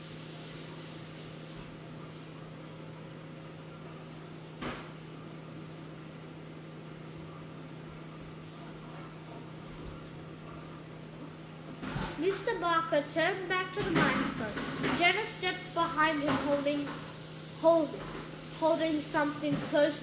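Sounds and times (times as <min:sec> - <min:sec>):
electrical hum with hiss: 0:00.0 - 0:20.0.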